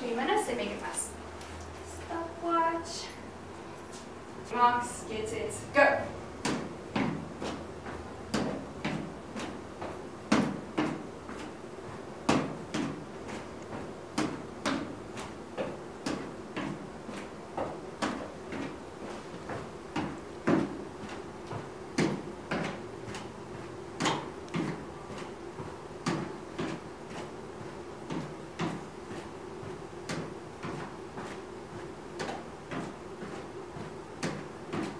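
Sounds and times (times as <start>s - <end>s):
footsteps on plastic step platform: 6.1s - 34.9s.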